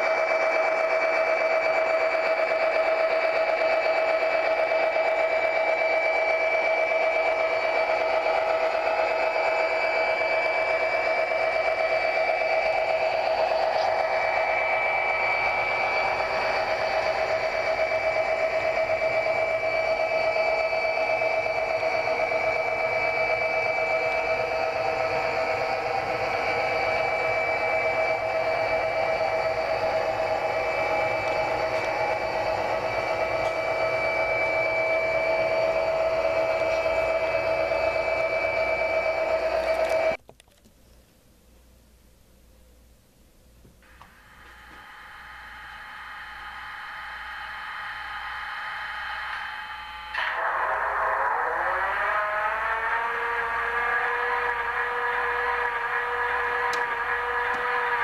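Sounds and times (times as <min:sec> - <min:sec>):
diesel engine drone with whine: 0:00.0 - 0:40.2, 0:43.8 - 0:58.0.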